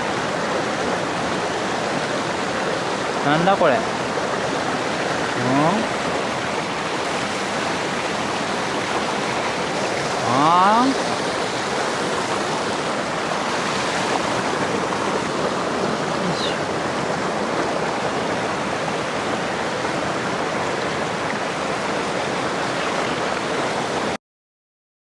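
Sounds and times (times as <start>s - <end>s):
stream water flowing: 0.0s - 24.2s.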